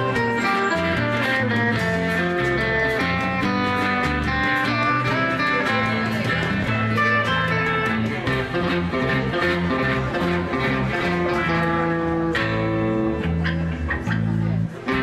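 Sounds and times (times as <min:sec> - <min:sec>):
bass guitar: 0:00.0 - 0:15.0
electric guitar melody: 0:00.0 - 0:15.0.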